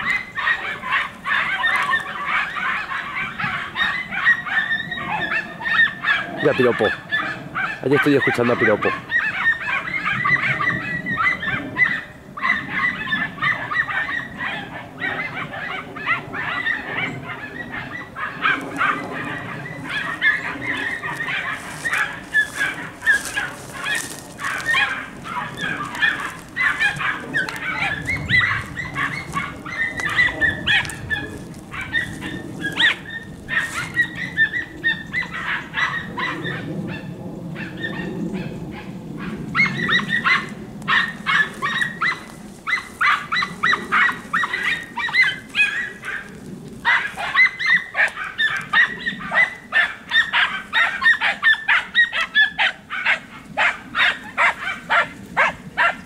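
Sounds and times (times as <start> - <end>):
hounds yelping: 0.0 - 56.0.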